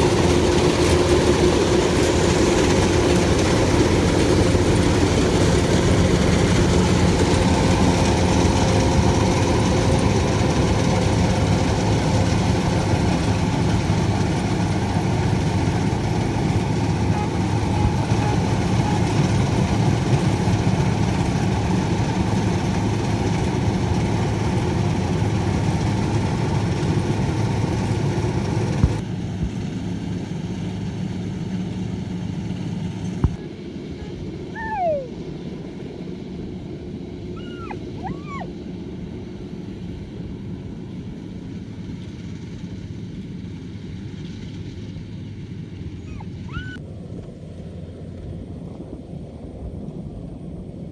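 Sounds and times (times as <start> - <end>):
harvester engine humming: 0.0 - 50.9.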